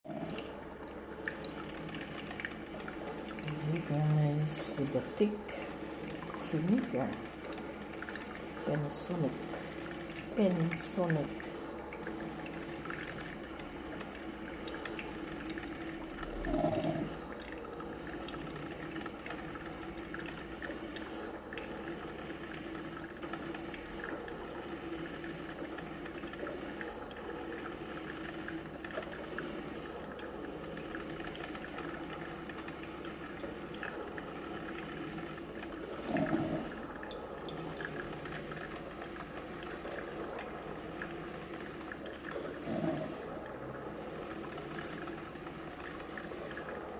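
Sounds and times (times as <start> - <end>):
coffee maker water bubbling: 0.0 - 46.9.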